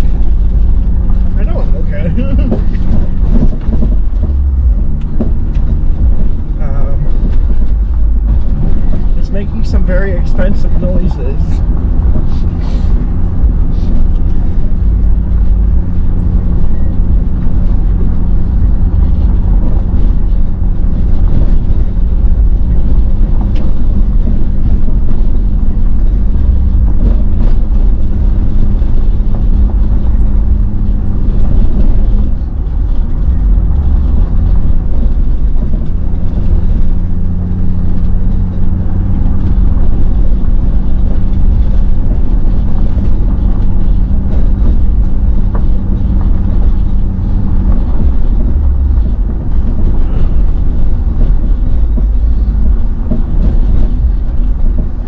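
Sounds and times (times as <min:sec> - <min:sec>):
engine and tyres rumbling: 0:00.0 - 0:55.0
engine hum: 0:00.0 - 0:55.0.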